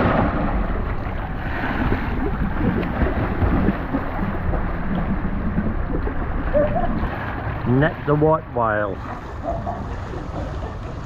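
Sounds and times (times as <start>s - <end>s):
water sloshing around camera: 0.0s - 11.0s.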